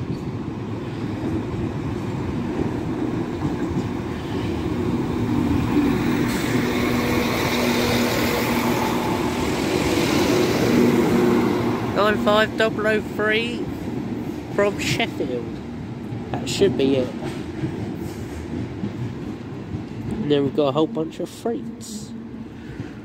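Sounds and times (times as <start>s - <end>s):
train engine hum: 0.0s - 23.0s.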